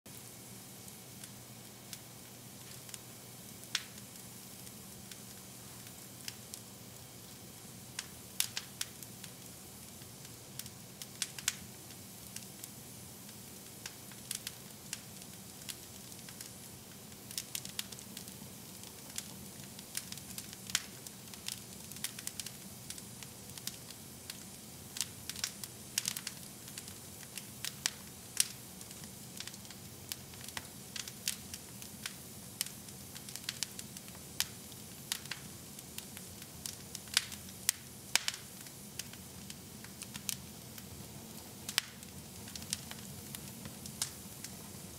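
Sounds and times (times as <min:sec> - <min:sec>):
wood fire crackling: 0:00.1 - 0:44.9.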